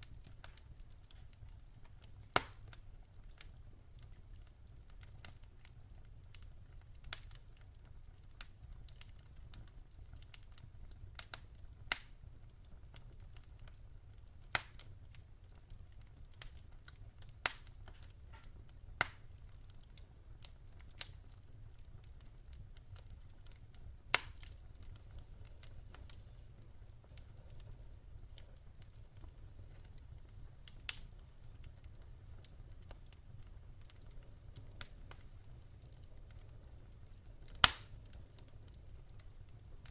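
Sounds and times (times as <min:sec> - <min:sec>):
campfire crackling and popping: 0:00.0 - 0:39.9
low rumble of fire: 0:00.0 - 0:39.9.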